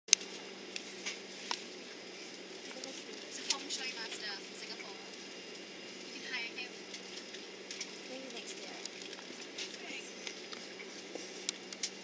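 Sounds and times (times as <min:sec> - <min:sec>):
airliner cabin hum: 0:00.1 - 0:12.0.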